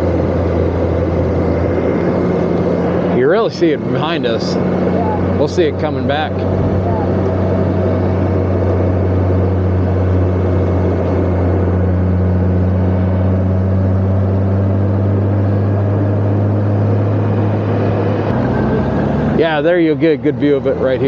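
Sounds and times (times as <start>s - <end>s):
motorcycle engine hum: 0.0s - 21.0s
wind and road noise: 0.0s - 21.0s.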